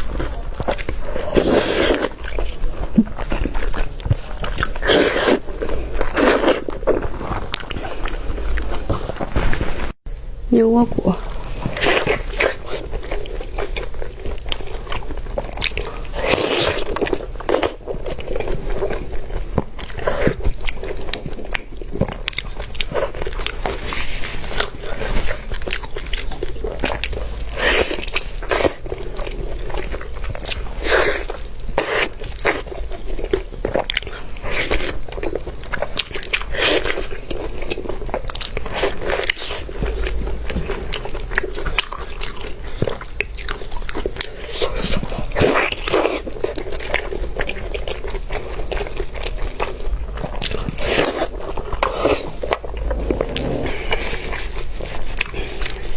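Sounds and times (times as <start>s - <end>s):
person chewing meat: 0.0s - 9.9s, 11.3s - 55.9s.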